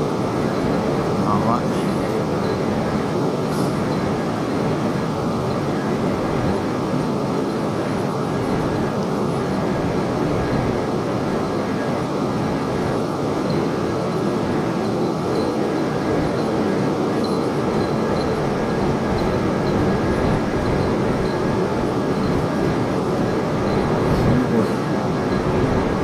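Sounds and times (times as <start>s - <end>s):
train rumbling at platform: 0.0s - 26.0s.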